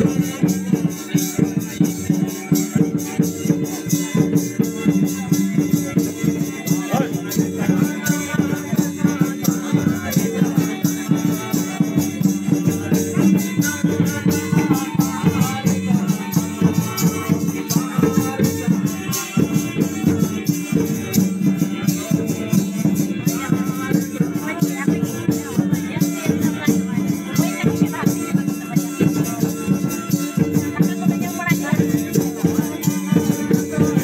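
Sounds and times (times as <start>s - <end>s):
drum: 0.0s - 34.0s
rhythmic rattling jingling beat: 0.0s - 34.0s
string instruments: 0.0s - 34.0s.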